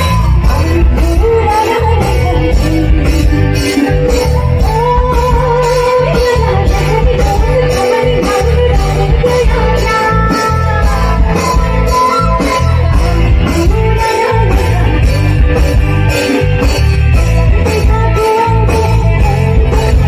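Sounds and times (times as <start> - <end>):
woman singing into microphone: 0.0 - 16.7, 17.4 - 20.0
bass guitar: 0.0 - 20.0
drums: 0.0 - 20.0
keyboard: 0.0 - 20.0.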